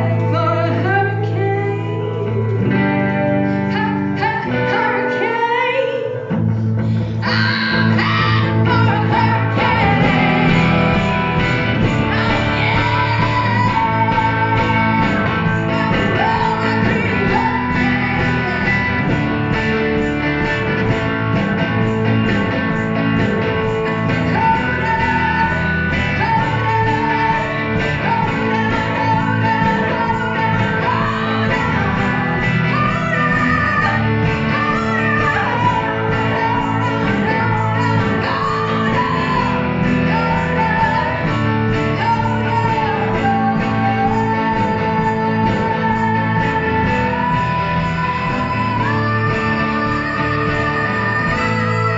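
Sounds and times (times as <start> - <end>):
rock song with guitars: 0.0 - 51.9.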